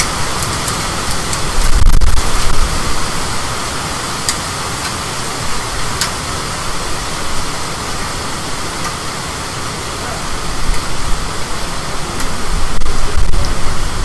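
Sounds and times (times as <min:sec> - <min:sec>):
wind and rain on microphone: 0:00.0 - 0:14.0.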